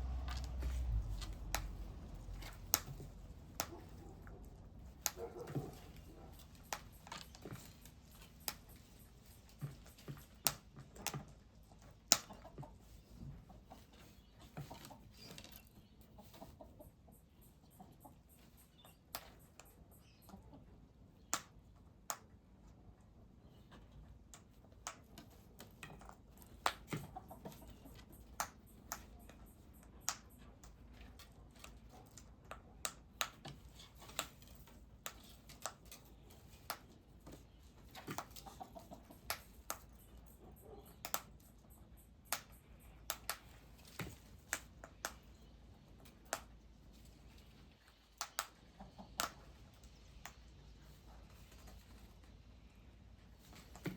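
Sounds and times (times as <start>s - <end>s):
low steady background noise: 0.0s - 53.9s
small birds chipping: 0.0s - 53.9s.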